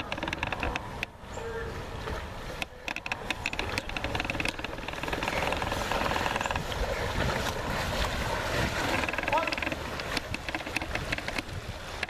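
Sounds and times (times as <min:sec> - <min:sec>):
paddles splashing: 0:00.0 - 0:12.0
water rushing: 0:00.0 - 0:12.0
wind buffeting microphone: 0:00.0 - 0:12.0.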